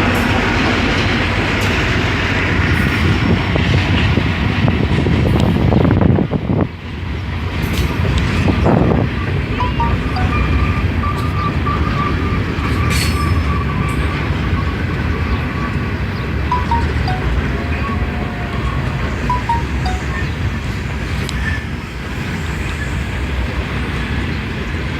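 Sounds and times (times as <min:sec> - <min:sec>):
freight train cars rumbling: 0:00.0 - 0:24.9.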